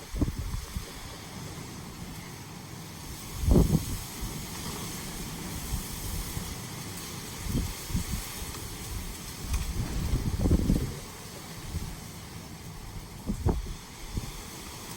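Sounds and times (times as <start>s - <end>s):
wind buffeting microphone: 0.0s - 2.3s, 2.9s - 14.8s
light rain hissing: 0.0s - 14.9s.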